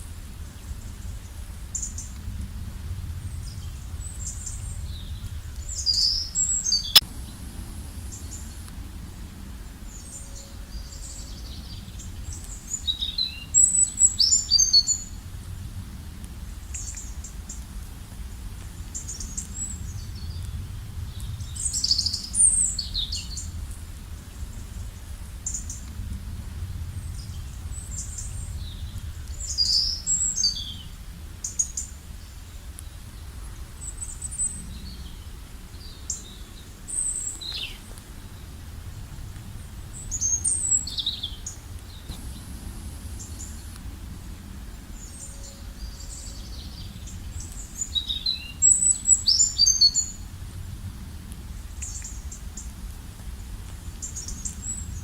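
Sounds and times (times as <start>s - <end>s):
songbirds chirping: 0.0s - 15.7s, 16.3s - 50.5s
steady low rumble: 0.0s - 55.0s.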